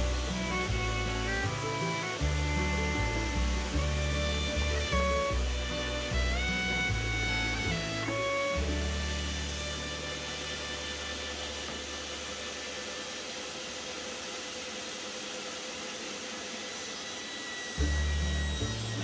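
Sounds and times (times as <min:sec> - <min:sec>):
shop vacuum running: 0:00.0 - 0:19.0.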